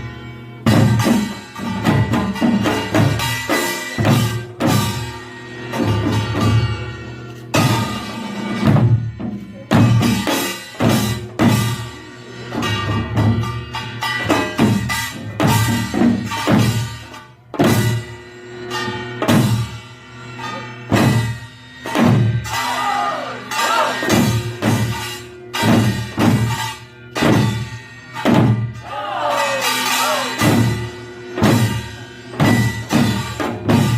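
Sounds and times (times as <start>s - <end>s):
percussion ensemble of drums and gongs: 0.0s - 33.9s.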